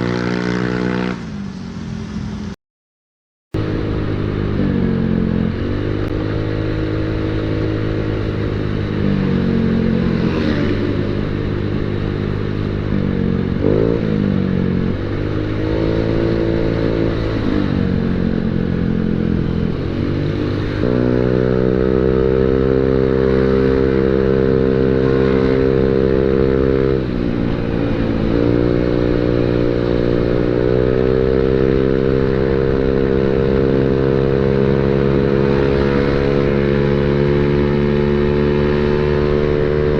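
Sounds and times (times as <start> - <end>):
scooter engine revving: 3.6 - 39.9.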